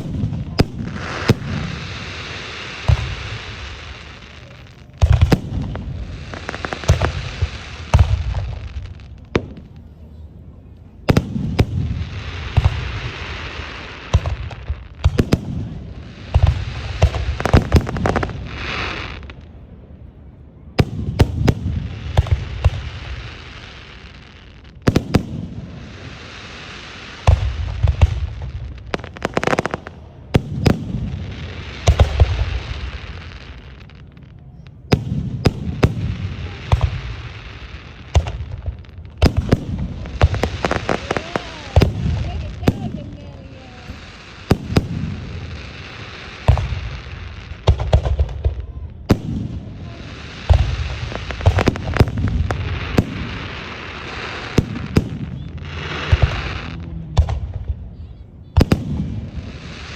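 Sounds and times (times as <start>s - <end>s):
firework crackle: 0.0s - 59.9s.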